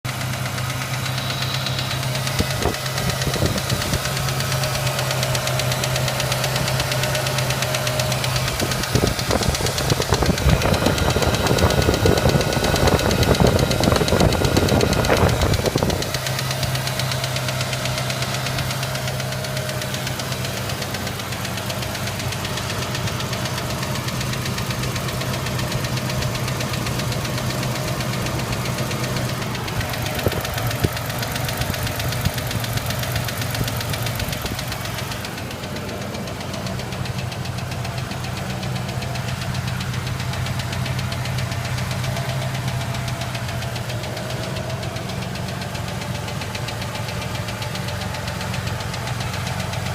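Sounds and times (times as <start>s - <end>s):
engine idling: 0.0s - 49.9s
fast even ticking: 0.5s - 49.8s.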